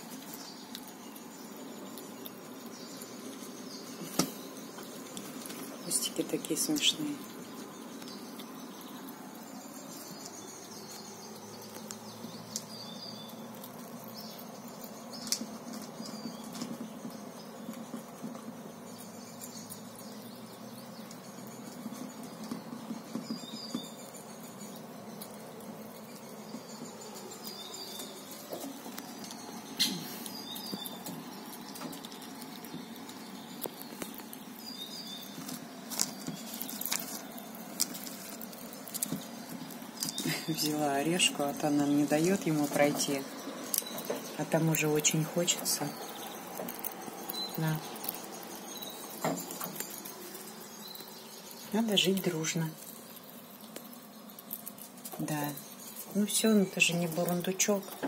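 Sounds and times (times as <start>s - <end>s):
faint bird chirps: 0.0s - 58.0s
squirrel crunching nuts: 0.0s - 58.0s.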